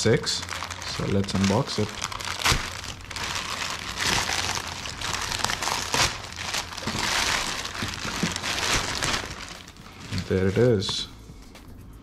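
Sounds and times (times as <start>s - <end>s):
plastic mailer crinkling: 0.0s - 11.0s.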